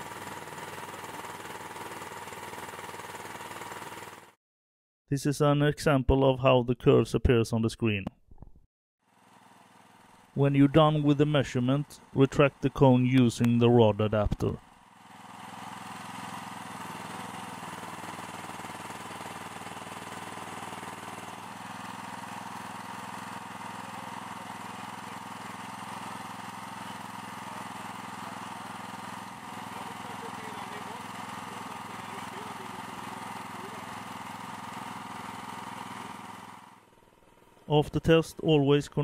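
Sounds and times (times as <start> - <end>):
small petrol engine running: 0.0 - 4.4, 9.0 - 13.3, 14.6 - 37.8.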